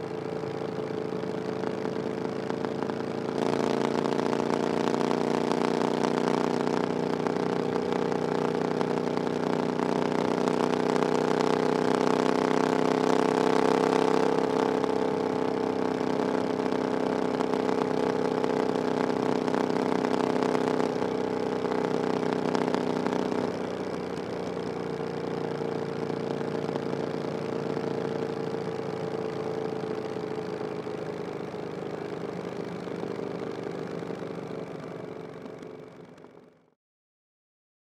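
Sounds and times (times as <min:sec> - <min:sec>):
motorcycle engine running: 0:00.0 - 0:36.7.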